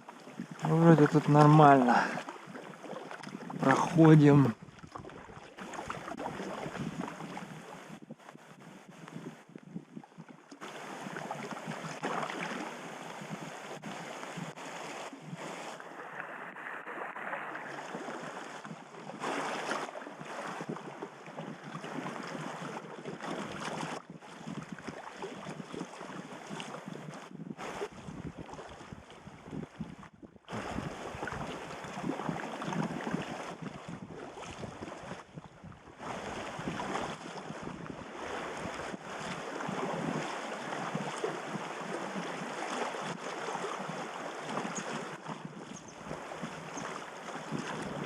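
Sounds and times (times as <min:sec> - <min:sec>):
river water rushing and splashing: 0:00.0 - 0:08.6, 0:10.6 - 0:26.8, 0:30.5 - 0:33.6, 0:36.0 - 0:48.0.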